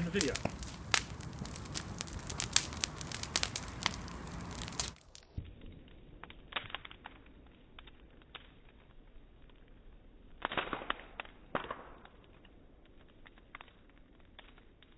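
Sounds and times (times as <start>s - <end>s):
bonfire crackling: 0.0s - 14.9s.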